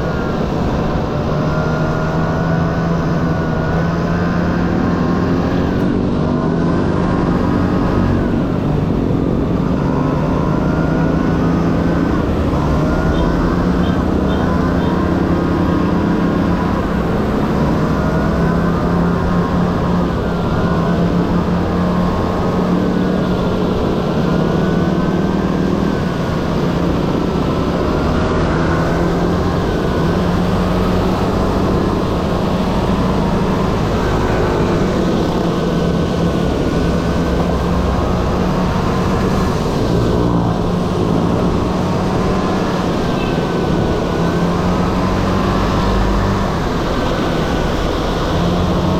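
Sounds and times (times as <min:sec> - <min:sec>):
scooter engine revving: 0:00.0 - 0:48.9
wind and road noise: 0:00.0 - 0:48.9.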